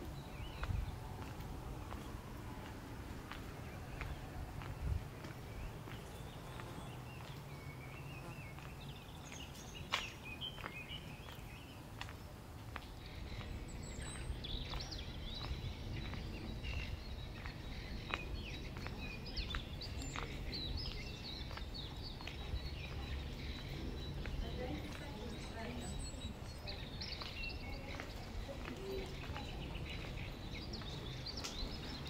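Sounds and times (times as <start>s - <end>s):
footsteps on cobblestones: 0.0s - 32.0s
small birds chirping: 0.0s - 32.0s.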